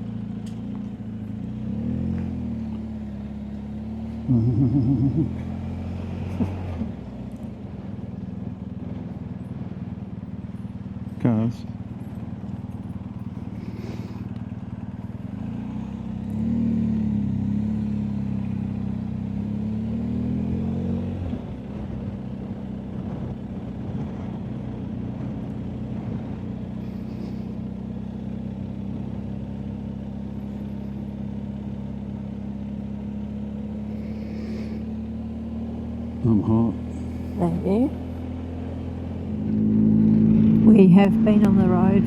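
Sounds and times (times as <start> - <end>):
motorcycle engine: 0.0 - 42.0.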